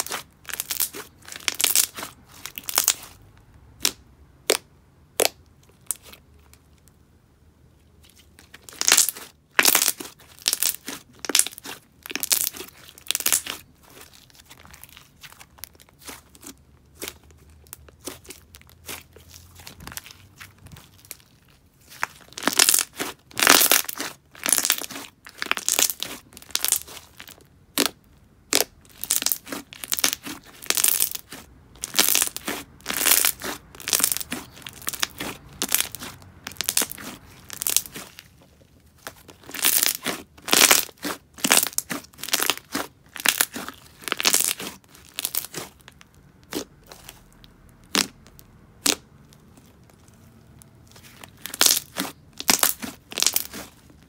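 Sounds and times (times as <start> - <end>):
slime squished by hand: 0.0 - 3.2, 8.0 - 54.0.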